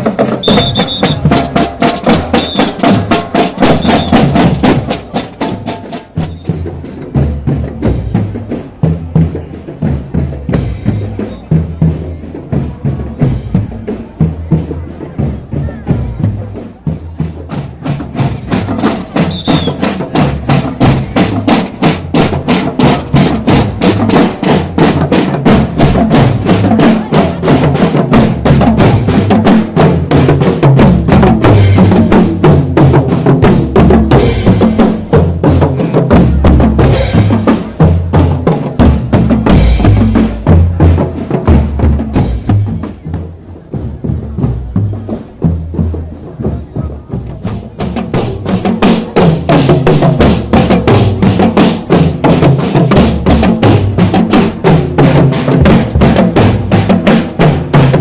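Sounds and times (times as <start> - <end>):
marching drums playing: 0.0 - 58.0.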